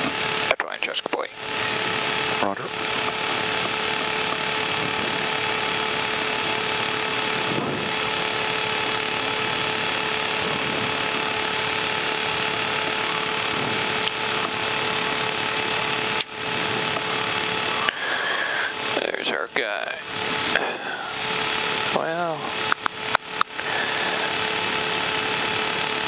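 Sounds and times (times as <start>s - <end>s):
steady cockpit tones: 0.0s - 23.6s
jet engine whine: 0.0s - 26.0s.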